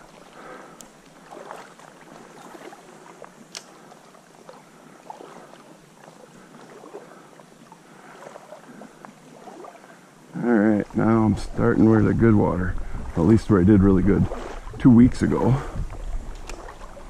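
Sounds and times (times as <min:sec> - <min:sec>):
stream water splashing: 0:00.0 - 0:17.0.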